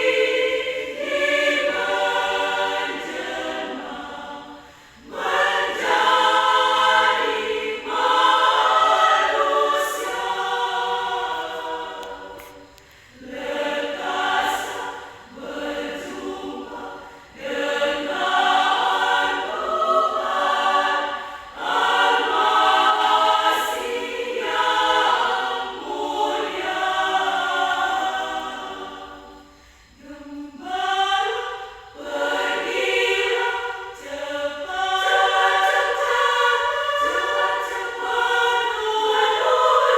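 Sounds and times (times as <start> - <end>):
women's choir singing: 0.0 - 39.9.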